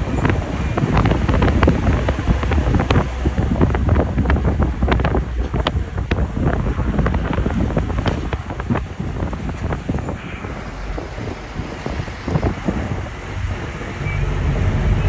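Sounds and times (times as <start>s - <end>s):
road vehicle rumble: 0.0s - 15.0s
wind buffeting microphone: 0.0s - 15.0s.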